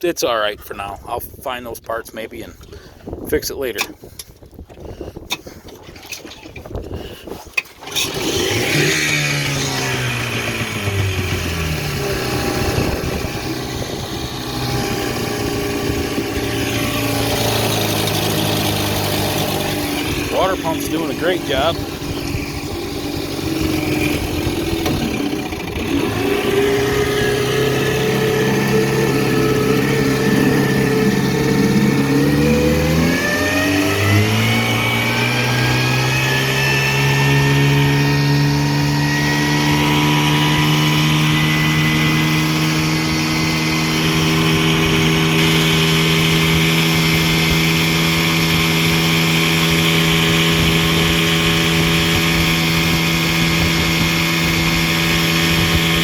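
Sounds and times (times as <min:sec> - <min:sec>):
outboard motor running: 0:02.4 - 0:56.0.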